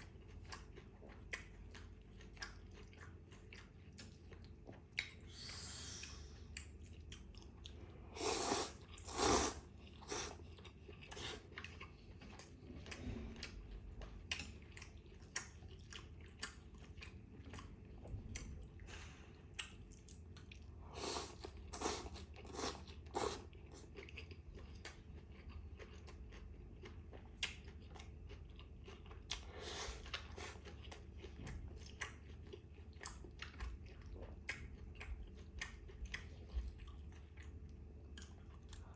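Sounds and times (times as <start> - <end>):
chewing with wet mouth clicks: 0.0 - 38.9.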